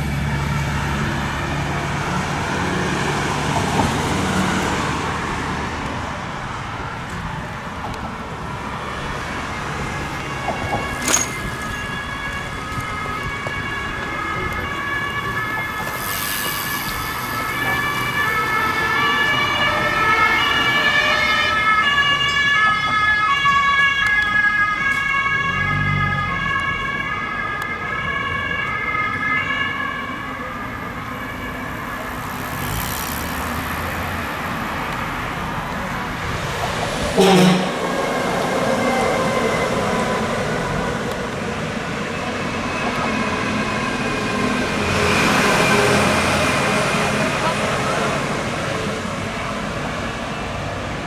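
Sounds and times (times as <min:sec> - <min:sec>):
road traffic noise: 0:00.0 - 0:51.0
two-tone sirens passing: 0:00.0 - 0:51.0.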